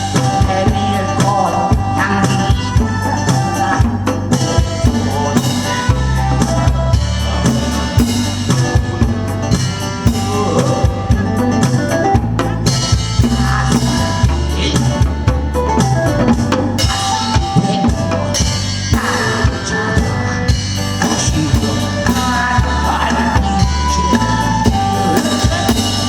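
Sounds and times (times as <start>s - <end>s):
instrumental trot music: 0.0s - 26.0s.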